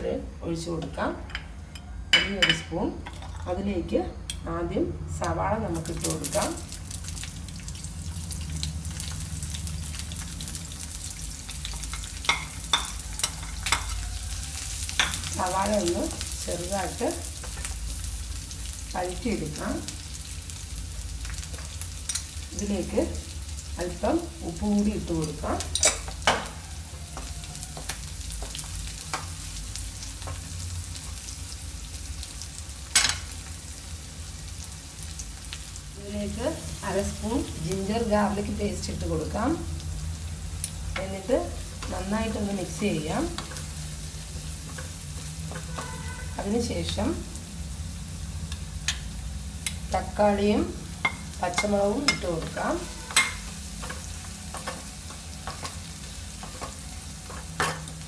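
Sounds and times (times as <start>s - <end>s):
onions sizzling in hot oil: 5.2s - 58.0s.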